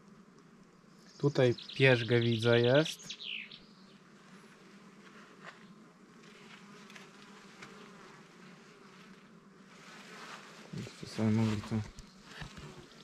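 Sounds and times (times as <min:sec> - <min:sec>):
bees humming: 0:00.0 - 0:13.0.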